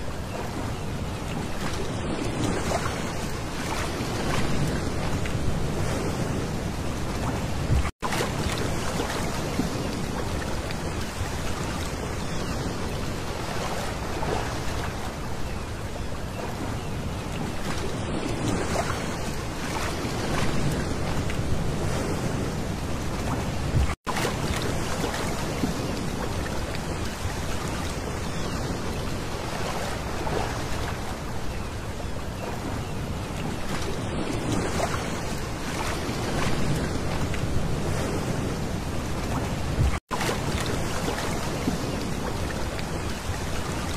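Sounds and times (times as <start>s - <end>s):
waves washing onto pebbles: 1.4s - 15.2s, 17.4s - 31.4s, 33.4s - 43.9s.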